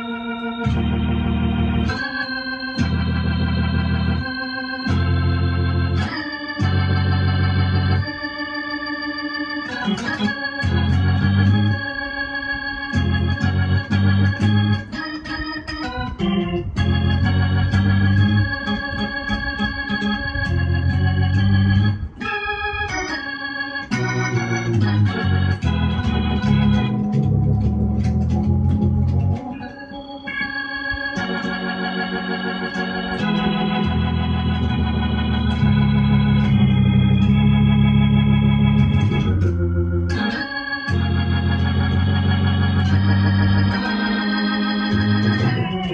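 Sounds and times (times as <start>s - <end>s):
organ-like keyboard chords: 0.0s - 45.9s.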